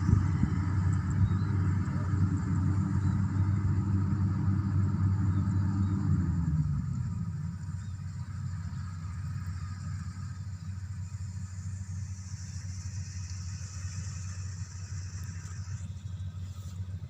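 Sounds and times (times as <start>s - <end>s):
combine harvester engine droning: 0.0s - 17.0s.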